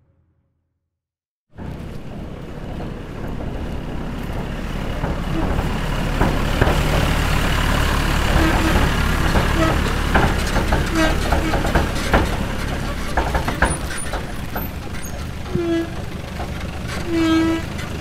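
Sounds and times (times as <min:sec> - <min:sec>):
heavy machine engine running: 0:01.6 - 0:18.0
knocks and clanks: 0:01.6 - 0:18.0.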